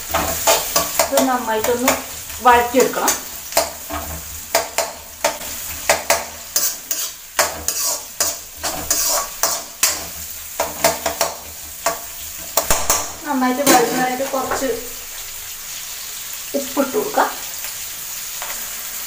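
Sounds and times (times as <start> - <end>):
metal spatula scraping a pan: 0.0 - 15.8, 18.3 - 19.0
onions sizzling in oil: 0.0 - 19.0.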